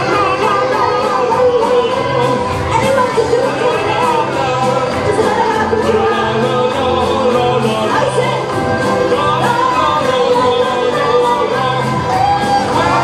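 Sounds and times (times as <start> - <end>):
acoustic guitar: 0.0 - 13.0
person singing: 0.0 - 13.0.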